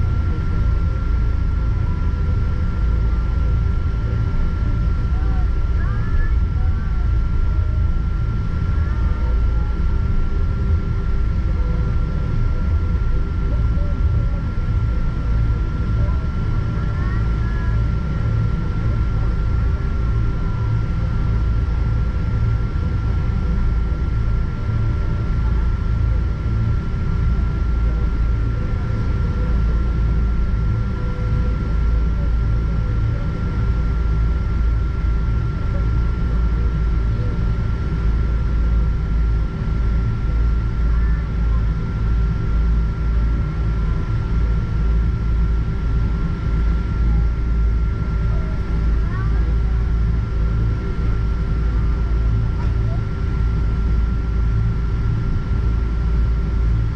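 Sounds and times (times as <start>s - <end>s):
aircraft cabin rumble: 0.0s - 56.9s
thin steady whine: 0.0s - 56.9s.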